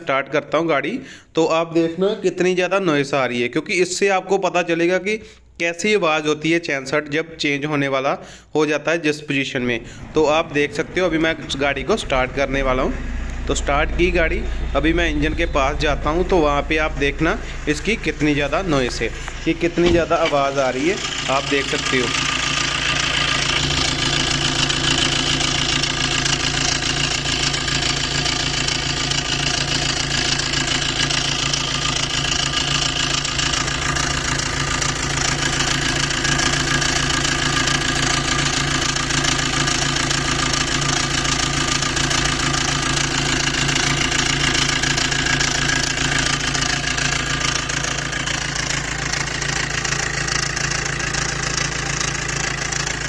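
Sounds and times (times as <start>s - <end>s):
car engine idling: 9.6s - 53.0s.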